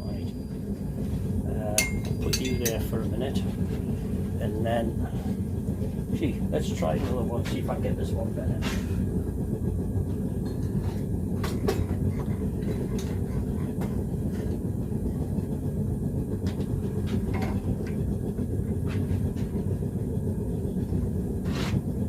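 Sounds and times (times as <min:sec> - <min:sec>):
gas forge rumbling: 0:00.0 - 0:22.0.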